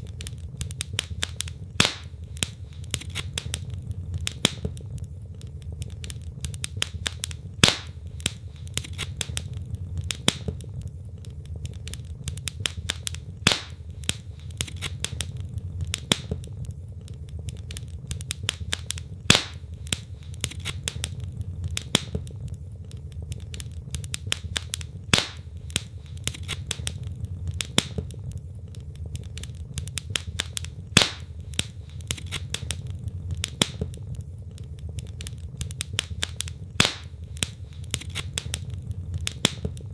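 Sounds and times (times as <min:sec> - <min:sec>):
fire popping: 0:00.0 - 0:39.9
logs crackling: 0:00.0 - 0:39.9
low rumble of flames: 0:00.0 - 0:39.9.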